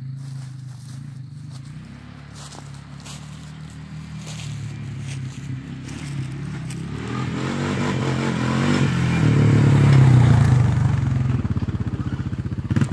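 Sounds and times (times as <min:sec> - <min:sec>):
small off-road engine running: 0:00.0 - 0:12.9.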